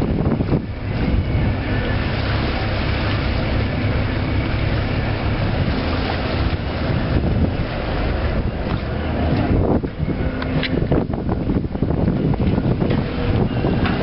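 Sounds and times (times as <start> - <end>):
boat engine running: 0.0 - 14.0
water washing along hull: 0.0 - 14.0
wind buffeting microphone: 0.0 - 14.0.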